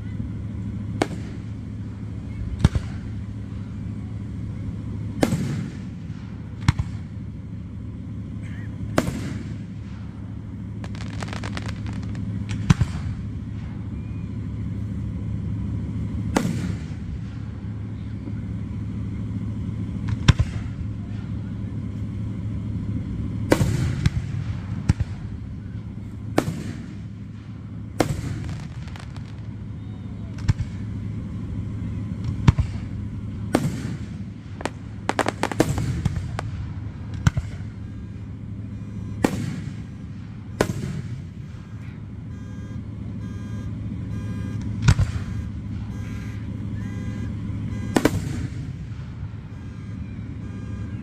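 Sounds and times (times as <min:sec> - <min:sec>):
low background hum: 0:00.0 - 0:51.0
fireworks bursting with bangs: 0:00.4 - 0:42.2, 0:43.8 - 0:51.0.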